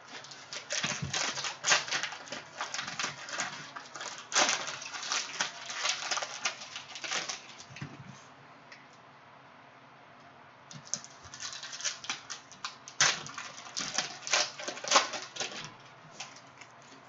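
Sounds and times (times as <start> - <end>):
cellophane wrapper tearing: 0.0 - 7.8, 10.7 - 16.7.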